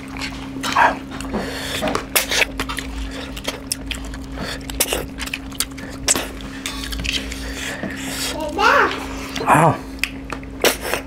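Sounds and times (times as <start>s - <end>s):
wet chewing and lip smacks: 0.0s - 8.1s, 9.9s - 11.0s.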